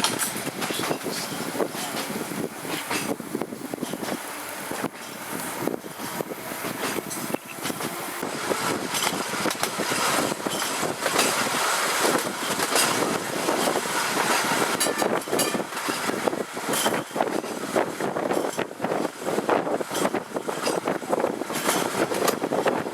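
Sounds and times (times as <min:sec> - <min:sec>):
tram clicks and knocks: 0:00.0 - 0:22.9
tram wheels rumbling on rail: 0:00.0 - 0:22.9.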